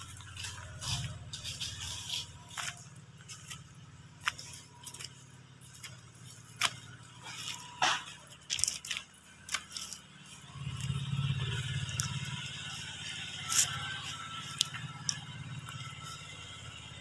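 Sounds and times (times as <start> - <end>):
footsteps on dry leaves: 0.0 - 17.0.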